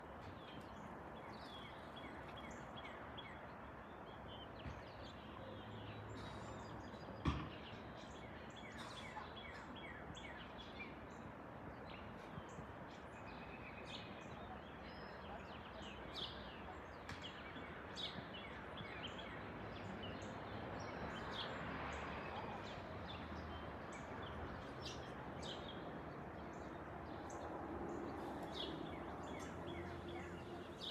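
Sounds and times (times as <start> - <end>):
faint jet rush overhead: 0.0 - 30.9
birds chirping: 0.2 - 30.9.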